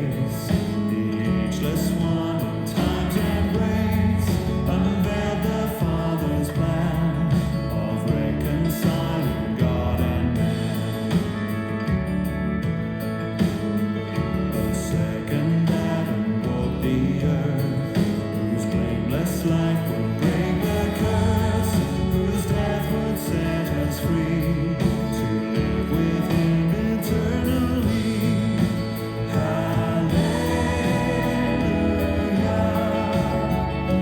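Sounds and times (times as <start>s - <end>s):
worship song with vocals: 0.0s - 11.8s, 14.6s - 34.0s.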